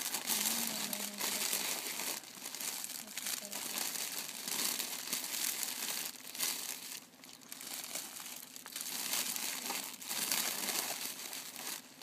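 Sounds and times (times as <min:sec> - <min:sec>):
plastic sleeves crinkling: 0:00.0 - 0:12.0.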